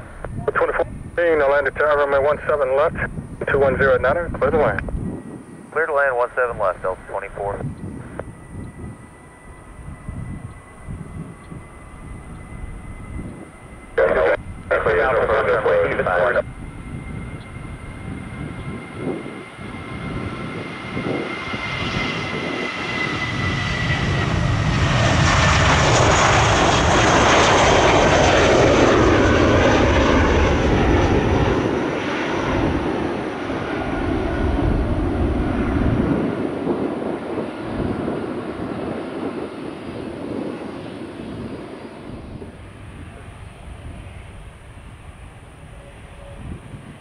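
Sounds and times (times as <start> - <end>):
jet airliner engines passing: 0.0 - 47.0.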